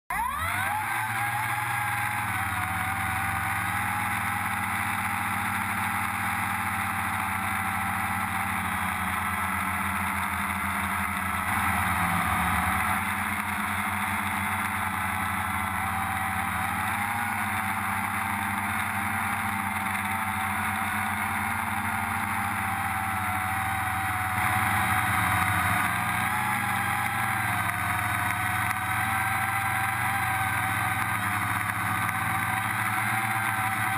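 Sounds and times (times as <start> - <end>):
drone motors whining: 0.1 - 33.9.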